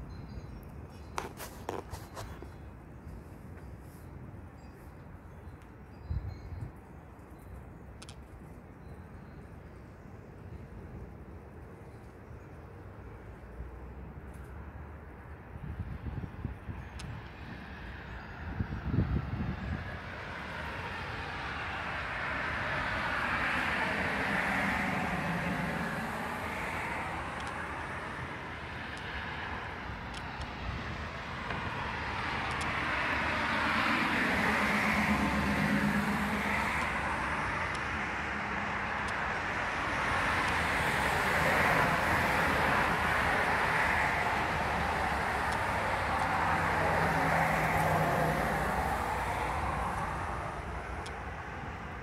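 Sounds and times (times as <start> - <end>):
cars passing: 0.0 - 52.0.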